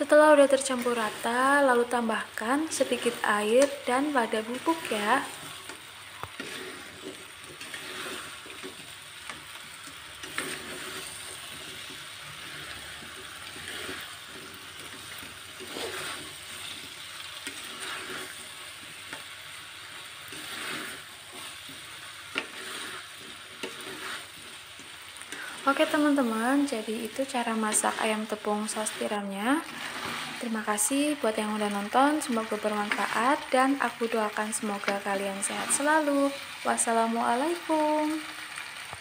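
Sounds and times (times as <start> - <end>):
low sizzle: 0.0 - 39.0
metal spatula scraping wok: 0.4 - 36.3.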